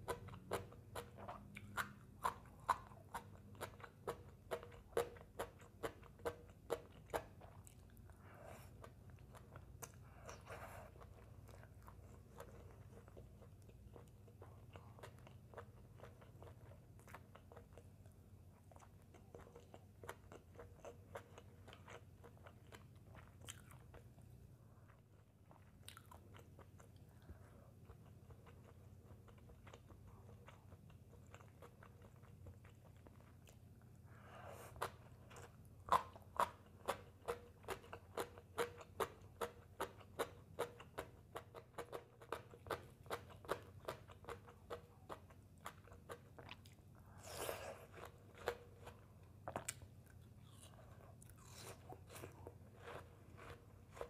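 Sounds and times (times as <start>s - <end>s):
chewing and crunching fried food: 0.0s - 54.0s.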